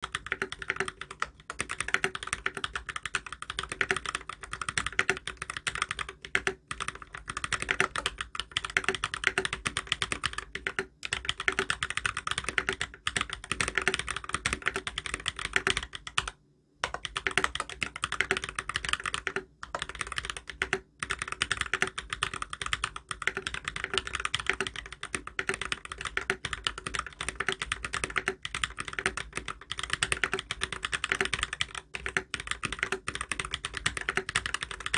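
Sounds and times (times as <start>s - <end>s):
typing on mechanical keyboard: 0.0s - 34.9s.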